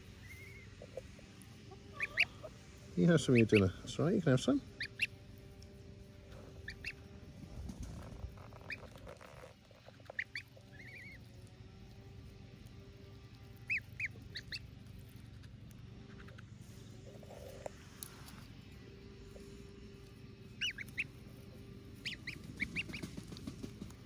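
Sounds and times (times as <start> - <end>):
goslings peeping: 0.0 - 18.4, 19.0 - 24.0.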